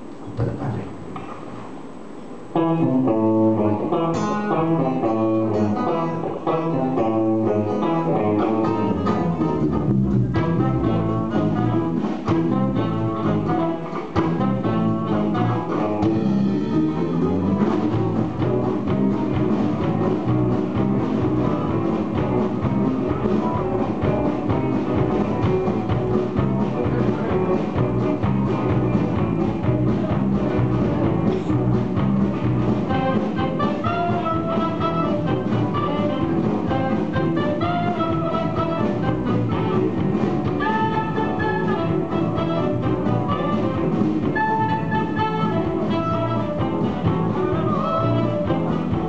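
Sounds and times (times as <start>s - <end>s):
live band playing: 0.0s - 49.0s.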